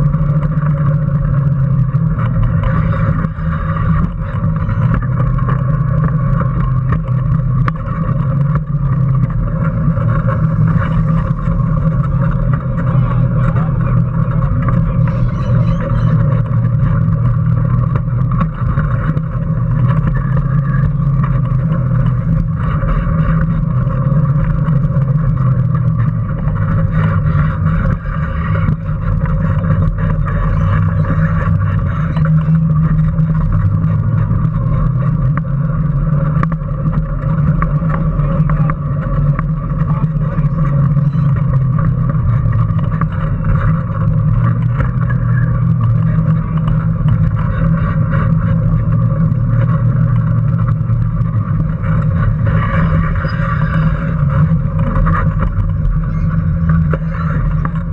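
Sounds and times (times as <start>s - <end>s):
chassis rattles and clicks: 0.0s - 57.9s
electric motor hum: 0.0s - 57.9s.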